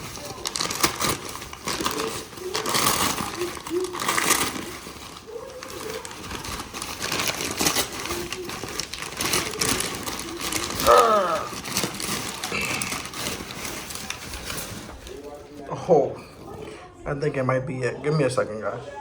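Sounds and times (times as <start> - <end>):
handling clicks and rustling: 0.0 - 15.7.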